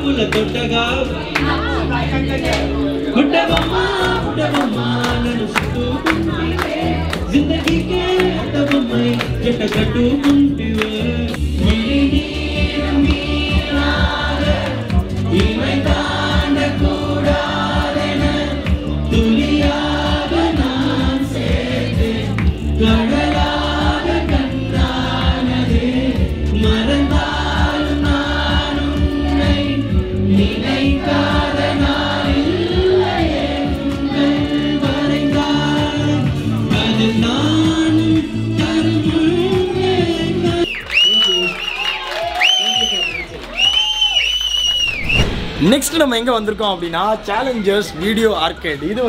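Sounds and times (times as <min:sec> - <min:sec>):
man singing into microphone: 0:00.0 - 0:14.6, 0:15.3 - 0:41.1
keyboard with steady beat: 0:00.0 - 0:40.6.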